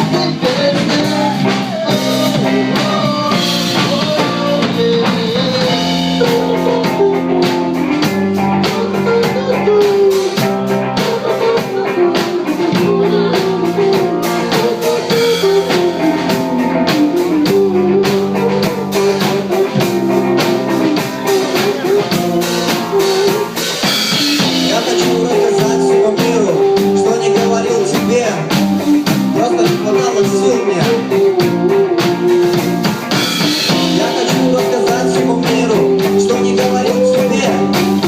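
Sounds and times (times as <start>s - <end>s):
drum kit beat: 0.0s - 38.0s
guitar melody: 0.0s - 38.0s.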